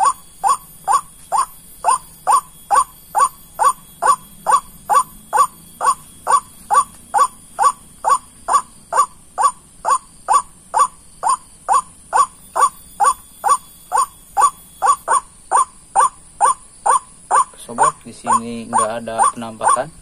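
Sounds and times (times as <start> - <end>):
waterhen calling: 0.0 - 20.0.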